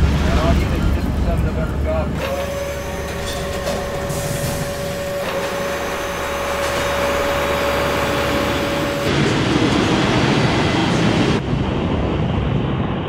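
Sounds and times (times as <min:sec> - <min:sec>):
high engine whine: 0:00.0 - 0:13.0
rushing engine noise: 0:00.0 - 0:13.0.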